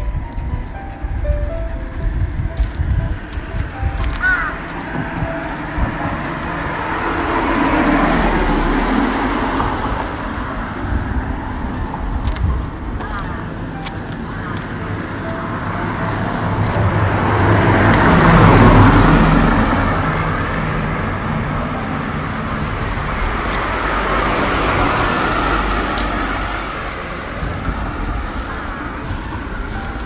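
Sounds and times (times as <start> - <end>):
faint vehicle passing: 0.0 - 30.0
car passing by: 0.7 - 30.0.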